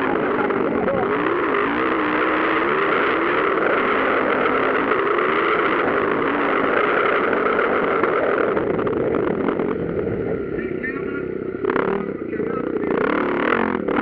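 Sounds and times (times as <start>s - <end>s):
motocross engines revving: 0.0s - 14.0s.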